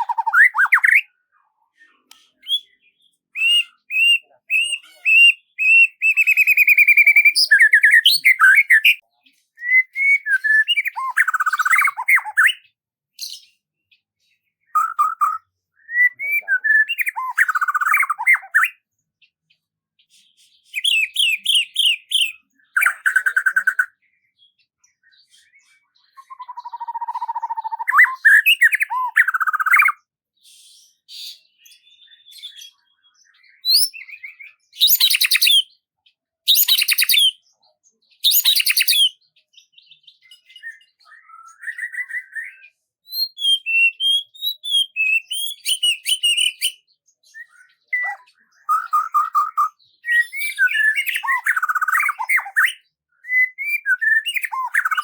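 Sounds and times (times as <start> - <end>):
songbird singing: 0.0 - 30.2, 30.9 - 55.0.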